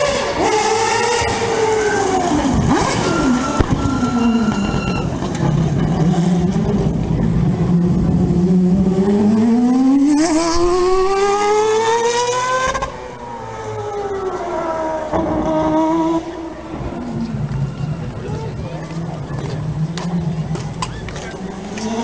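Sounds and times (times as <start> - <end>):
rotary engine race car passing: 0.0 - 22.0.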